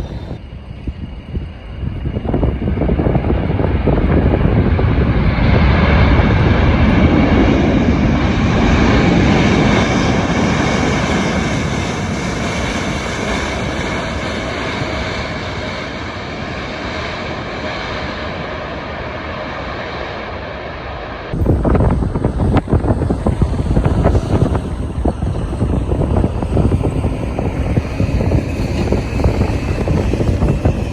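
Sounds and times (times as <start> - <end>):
jet airliner engines passing: 0.0 - 30.9.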